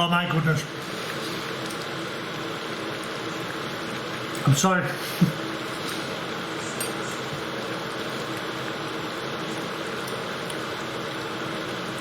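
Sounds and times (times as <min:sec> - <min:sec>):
fan-like hiss: 0:00.0 - 0:12.0.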